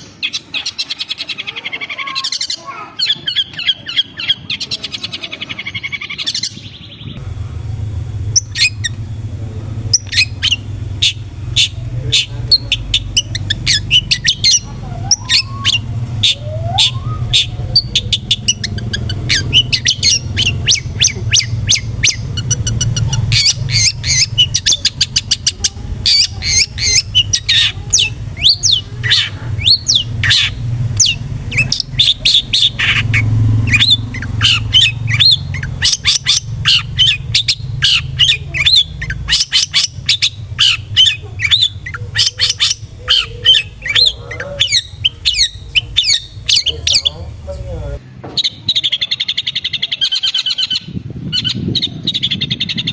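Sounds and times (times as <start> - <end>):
bird chattering song: 0.0 - 7.2, 8.0 - 52.9
low steady rumble: 5.7 - 48.7.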